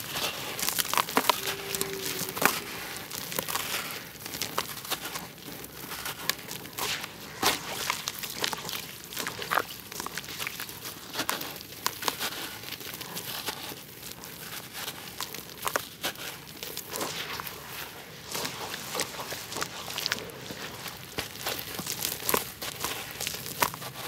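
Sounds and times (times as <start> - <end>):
dirt crunching and crumbling by hand: 0.0 - 24.0.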